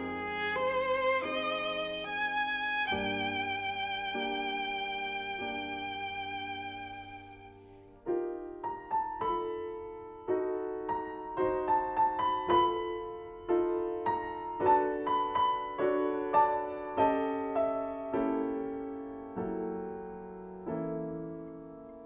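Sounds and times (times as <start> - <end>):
solo piano melody: 0.0 - 22.0.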